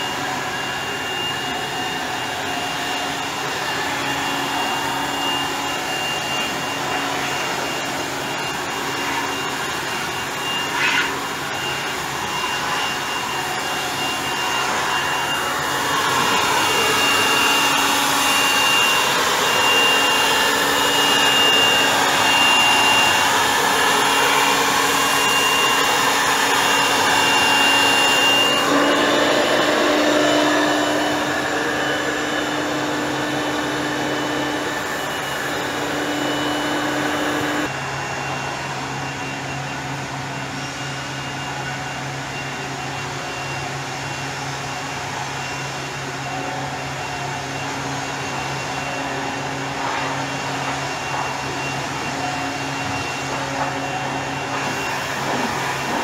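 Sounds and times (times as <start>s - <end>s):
electric blower whining: 0.0s - 56.0s.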